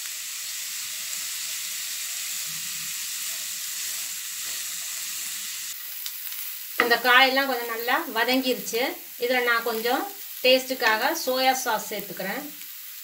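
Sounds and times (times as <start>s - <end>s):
vegetables sizzling in oil: 0.0s - 13.0s
wooden spatula stir-frying: 1.0s - 12.0s.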